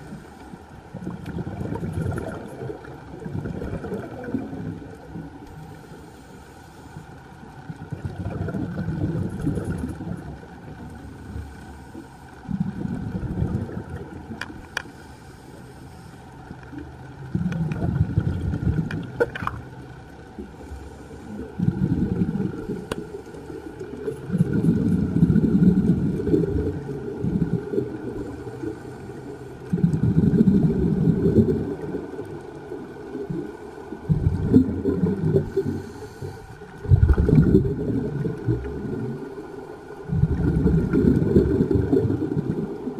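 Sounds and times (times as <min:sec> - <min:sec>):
underwater exhaled bubbles gurgling: 0:00.0 - 0:06.3, 0:07.0 - 0:42.9
faint steady hum: 0:00.0 - 0:42.9.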